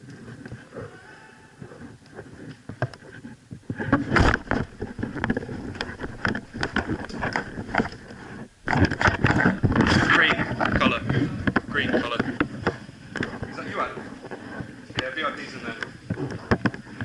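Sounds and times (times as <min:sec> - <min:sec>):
knocks and rustles of movement: 0:00.0 - 0:17.0.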